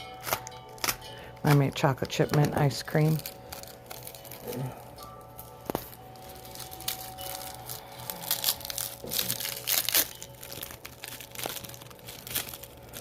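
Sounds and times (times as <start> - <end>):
packing material crinkling: 0.0 - 13.0.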